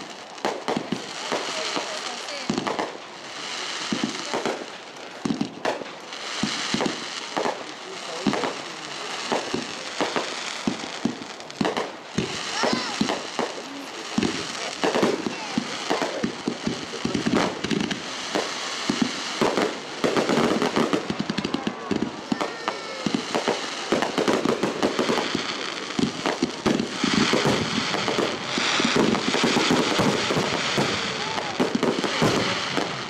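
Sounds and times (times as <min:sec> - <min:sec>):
firework whistles: 0:00.0 - 0:33.0
fireworks bangs and crackles: 0:00.0 - 0:33.0.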